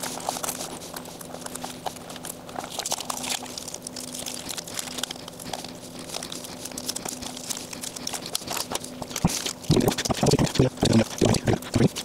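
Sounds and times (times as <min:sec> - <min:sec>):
tape peeling with crackling: 0:00.0 - 0:10.1.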